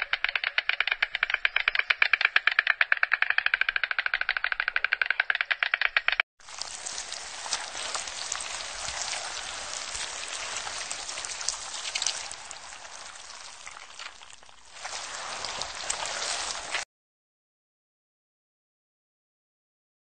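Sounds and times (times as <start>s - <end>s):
dense steady pattering: 0.0s - 16.8s.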